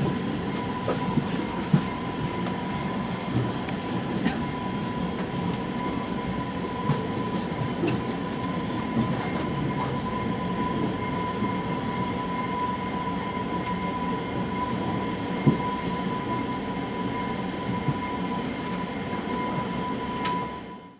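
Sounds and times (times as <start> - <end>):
train rumbling: 0.0 - 20.7.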